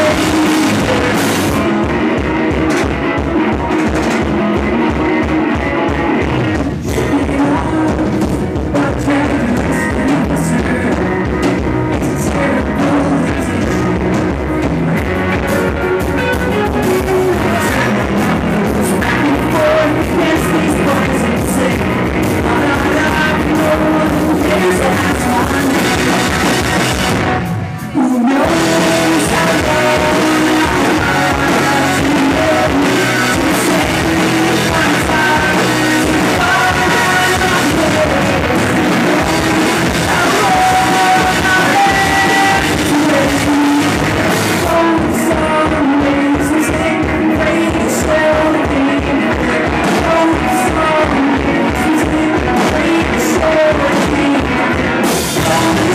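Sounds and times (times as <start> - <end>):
person singing lead vocal: 0.0 - 55.9
rock band playing live: 0.0 - 55.9.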